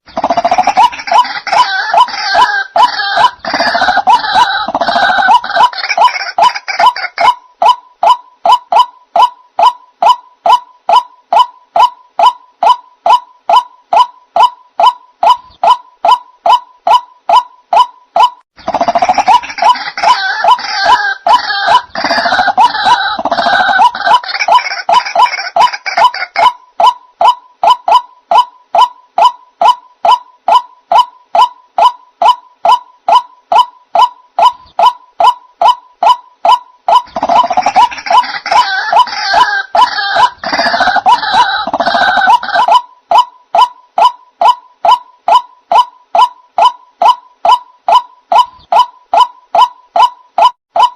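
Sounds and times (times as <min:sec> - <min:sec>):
repeated nasal bird call: 0:00.0 - 0:50.9.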